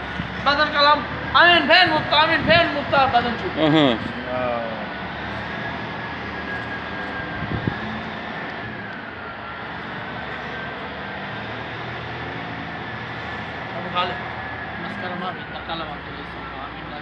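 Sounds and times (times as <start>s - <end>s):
machinery drone: 0.0s - 17.0s.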